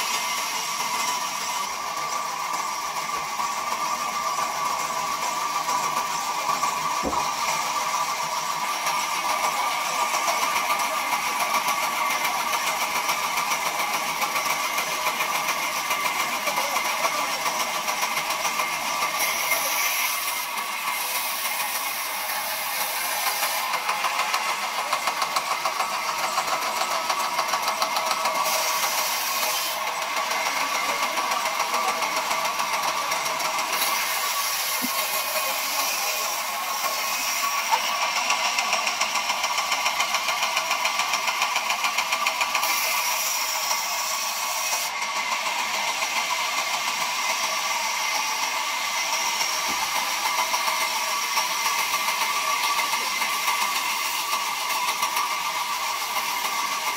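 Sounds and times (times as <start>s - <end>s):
band saw machine whine: 0.0s - 56.9s
blade cutting wood hiss: 0.0s - 56.9s.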